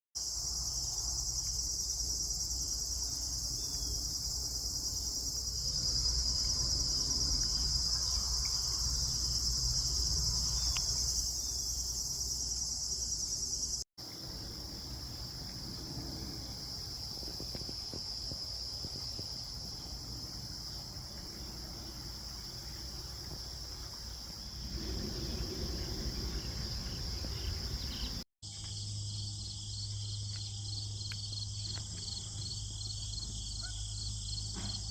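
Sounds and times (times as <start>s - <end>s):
insects chorus: 0.2s - 34.9s.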